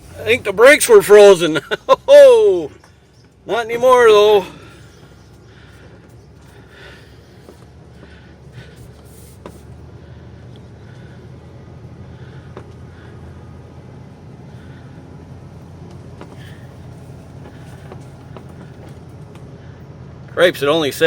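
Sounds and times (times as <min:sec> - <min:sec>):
motorhome engine running: 0:00.0 - 0:21.0.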